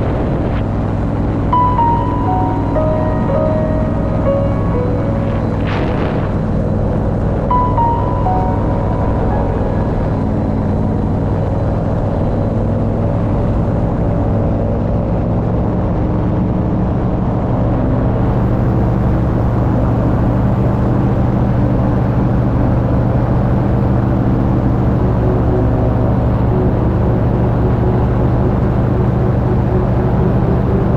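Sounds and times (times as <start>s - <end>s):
paramotor engine droning: 0.0s - 30.9s.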